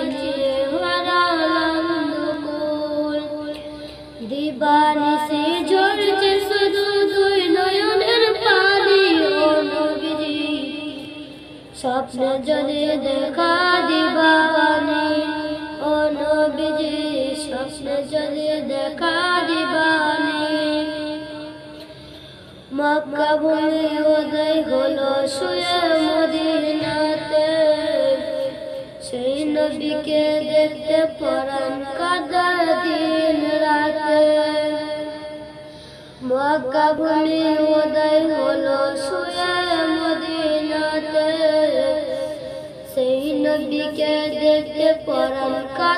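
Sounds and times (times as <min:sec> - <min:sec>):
boy singing devotional song: 0:00.0 - 0:45.9.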